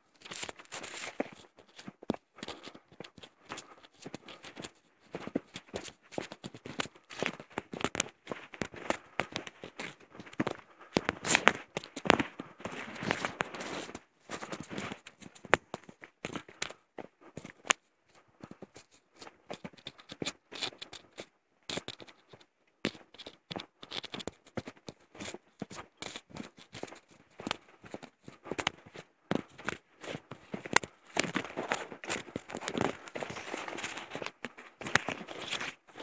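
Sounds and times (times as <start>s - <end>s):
footsteps on leaves and twigs: 0.2s - 17.7s, 18.4s - 36.0s.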